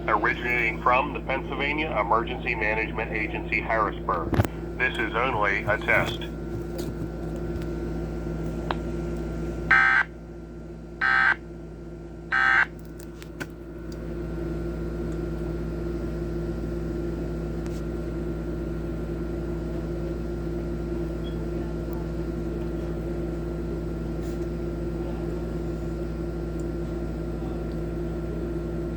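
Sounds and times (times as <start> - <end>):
low electrical hum: 0.0 - 28.9.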